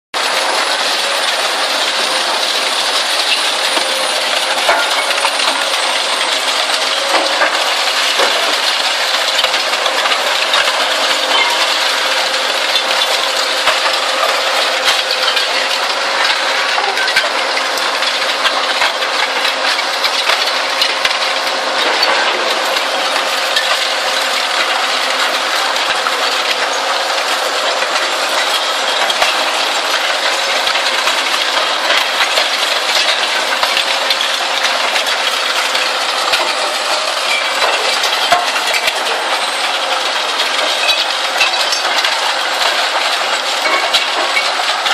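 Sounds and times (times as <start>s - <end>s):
shredder machine hum: 0.2s - 44.9s.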